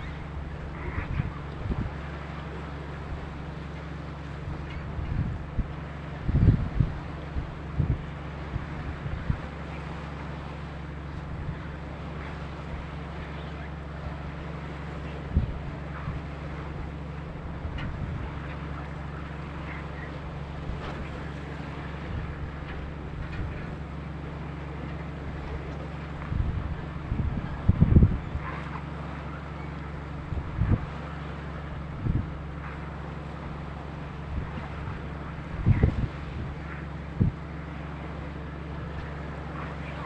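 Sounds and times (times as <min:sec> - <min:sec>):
boat engine droning: 0:00.0 - 0:40.0
wind buffeting microphone: 0:00.0 - 0:40.0.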